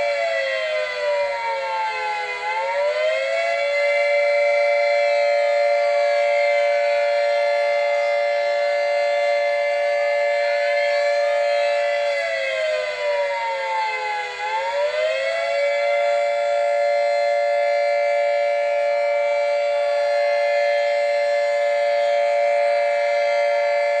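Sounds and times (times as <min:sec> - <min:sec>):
warning siren chord: 0:00.0 - 0:24.0.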